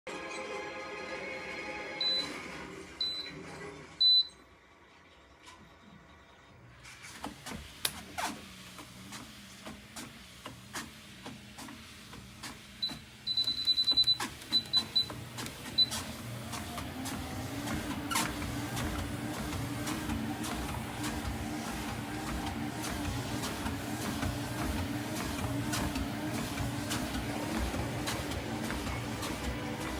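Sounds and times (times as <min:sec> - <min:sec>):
treadmill electronic beeps: 0:02.0 - 0:04.4, 0:05.5 - 0:29.9
treadmill motor hum: 0:05.2 - 0:29.9.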